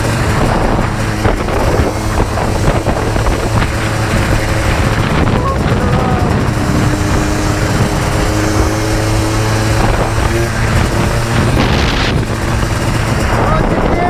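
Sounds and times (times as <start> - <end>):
two-stroke engine running: 0.0 - 14.0
wind buffeting microphone: 0.0 - 14.0.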